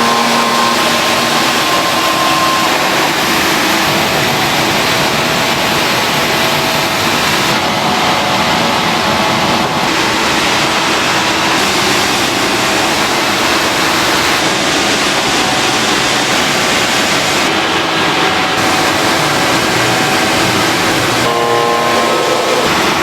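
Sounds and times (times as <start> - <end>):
factory machinery hiss: 0.0 - 23.0.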